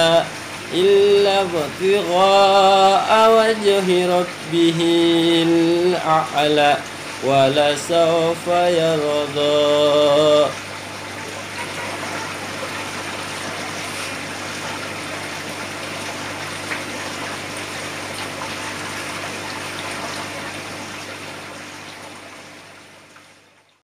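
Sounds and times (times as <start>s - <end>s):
aquarium water bubbling: 0.0s - 23.8s
pump humming: 0.0s - 23.8s.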